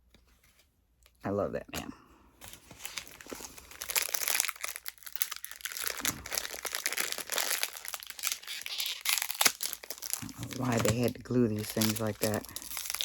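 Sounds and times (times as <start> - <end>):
plastic wrapper crinkling and tearing: 2.4 - 13.0.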